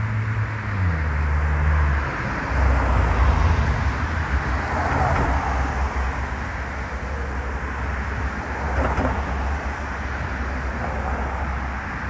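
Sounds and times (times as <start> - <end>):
outdoor noise: 0.0 - 12.0.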